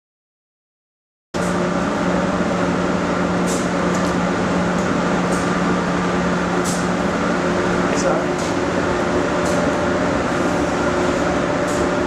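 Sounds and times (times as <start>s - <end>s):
mechanical hum: 1.4s - 12.0s.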